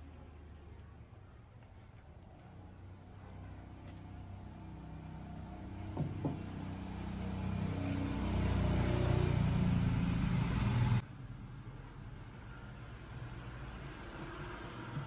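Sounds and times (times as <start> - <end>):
engine running: 2.4 - 15.0.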